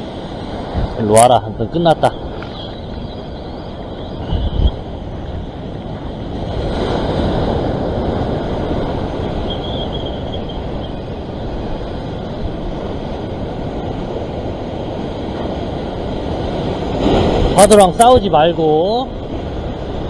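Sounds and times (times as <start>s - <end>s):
waves breaking against rocks: 0.0s - 20.0s
wind buffeting microphone: 0.0s - 20.0s.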